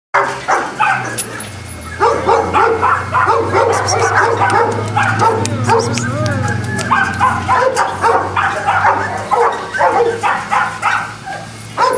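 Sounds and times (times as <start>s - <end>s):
dogs barking and yipping: 0.2s - 11.9s.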